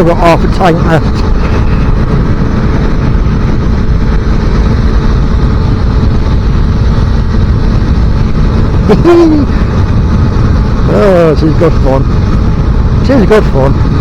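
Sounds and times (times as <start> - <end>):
motorcycle engine drone: 0.0 - 14.0
wind buffeting microphone: 0.0 - 14.0.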